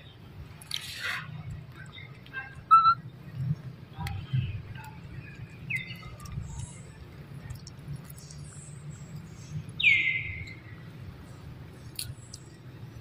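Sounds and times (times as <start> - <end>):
steady low rumble: 1.2 - 13.0.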